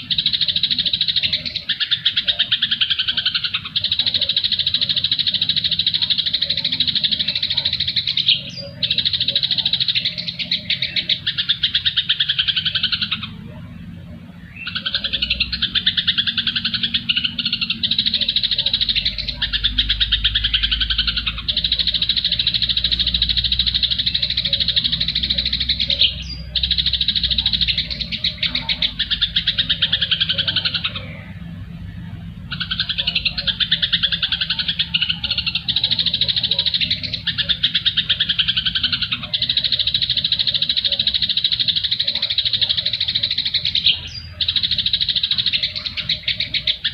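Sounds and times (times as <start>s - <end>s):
songbird chattering: 0.0s - 46.9s.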